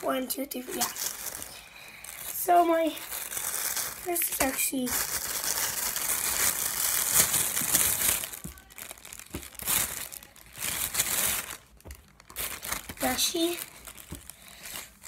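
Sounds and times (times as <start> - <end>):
plastic crinkling: 0.3 - 15.0.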